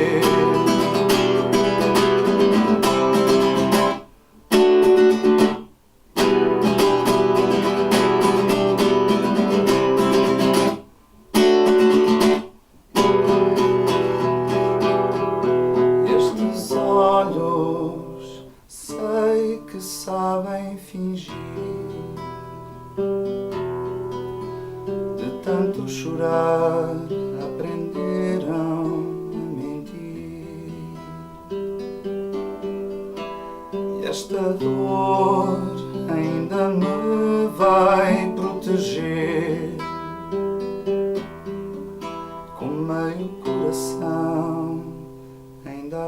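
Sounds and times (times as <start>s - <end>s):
acoustic guitar strummed chords: 0.0s - 46.0s.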